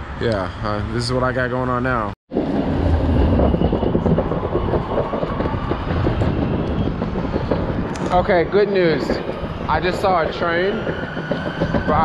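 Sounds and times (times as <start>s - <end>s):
light rail train rumbling past: 0.5s - 12.0s.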